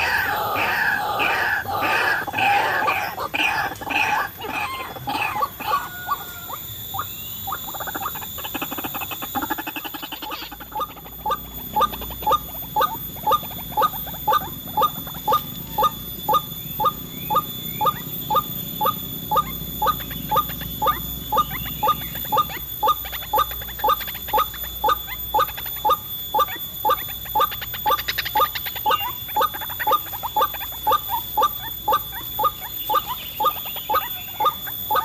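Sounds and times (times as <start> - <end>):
waterhen calling: 0.0 - 35.0.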